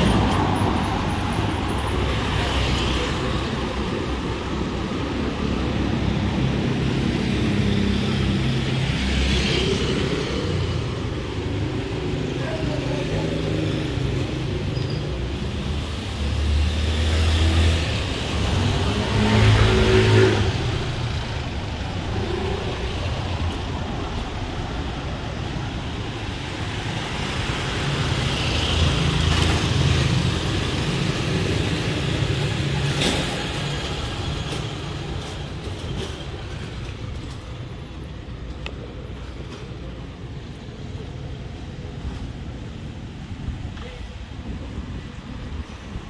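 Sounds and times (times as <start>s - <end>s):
vehicles driving past: 0.0s - 46.0s.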